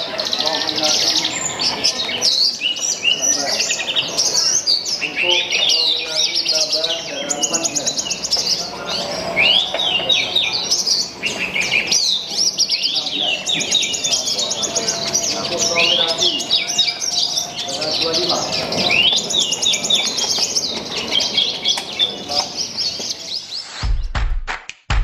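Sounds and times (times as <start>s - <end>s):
bird singing trills and whistles: 0.0s - 23.9s.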